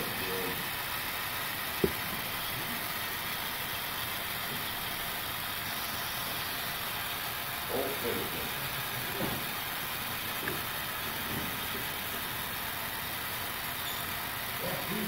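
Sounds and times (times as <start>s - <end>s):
model train cars rolling on track: 0.0s - 15.0s.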